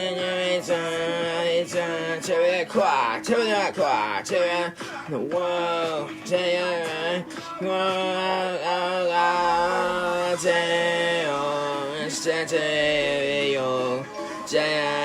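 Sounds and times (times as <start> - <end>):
person singing chant-like song: 0.0 - 15.0.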